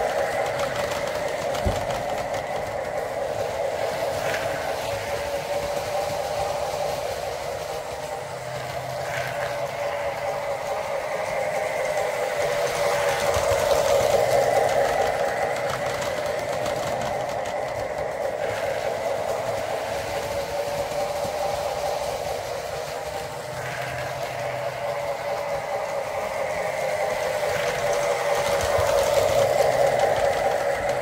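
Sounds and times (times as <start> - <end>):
model train motor drone: 0.0 - 31.0
wheels clattering on rails: 0.0 - 31.0.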